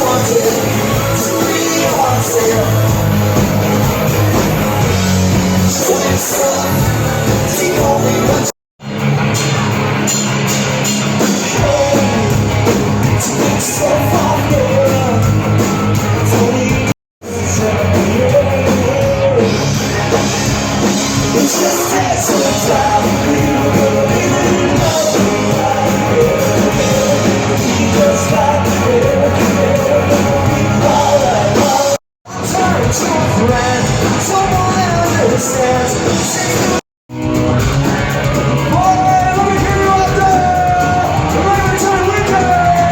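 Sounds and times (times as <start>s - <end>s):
rock song with singer and band: 0.0s - 42.9s.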